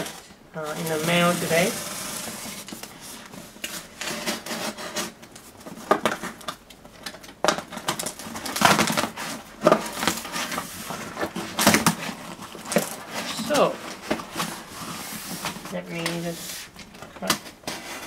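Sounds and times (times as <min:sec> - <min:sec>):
cardboard flap rustling: 0:00.0 - 0:18.0.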